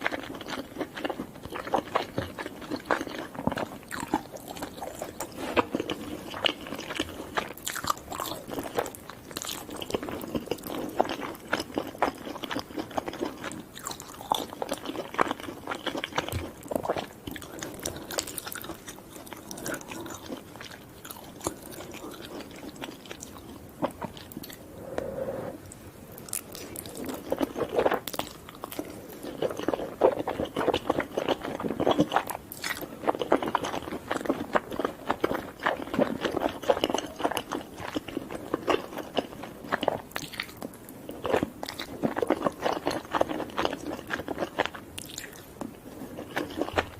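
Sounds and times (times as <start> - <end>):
crunching and chewing food: 0.0 - 24.6, 26.2 - 46.9.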